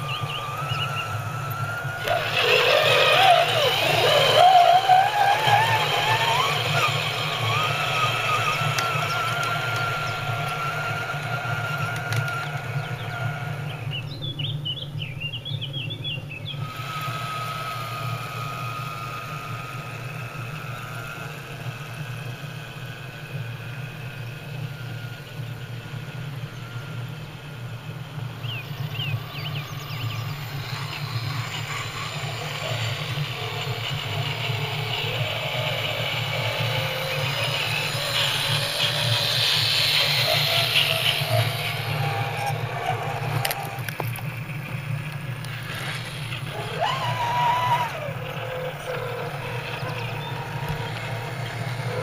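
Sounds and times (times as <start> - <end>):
birds chirping: 0.0 - 52.0
electric motors whining: 0.0 - 52.0.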